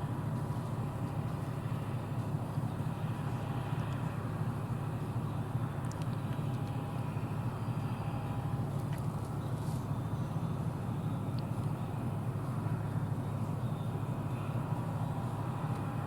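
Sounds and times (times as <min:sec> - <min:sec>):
combine engine and machinery rumble: 0:00.0 - 0:16.0.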